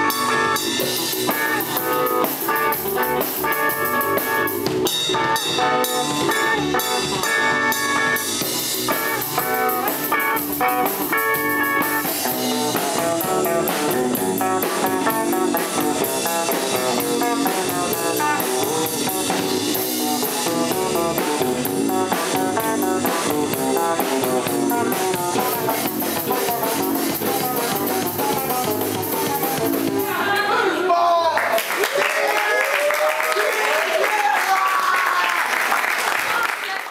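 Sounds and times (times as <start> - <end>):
steady drumming: 0.0 - 30.3
rock band playing: 0.0 - 30.8.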